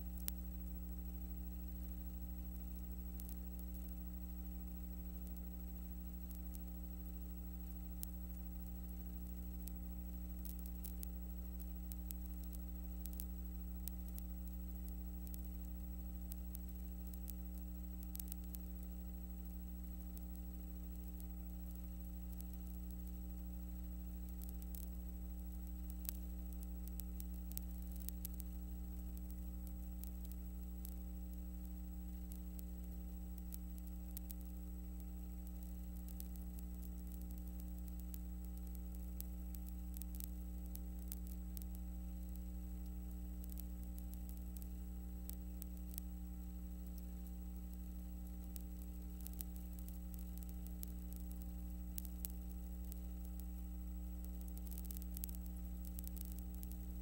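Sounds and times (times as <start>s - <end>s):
crackle and static: 0.0s - 57.0s
electrical hum: 0.0s - 57.0s.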